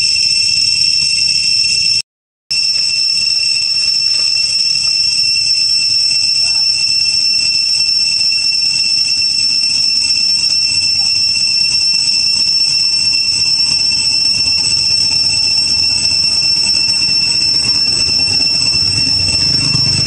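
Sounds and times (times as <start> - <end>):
cicadas droning: 3.3 - 20.0.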